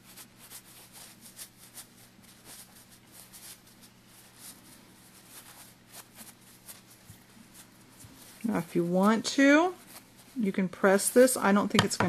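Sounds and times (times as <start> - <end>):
fabric rustling and scraping: 0.0 - 12.0
faint steady hum: 0.0 - 12.0.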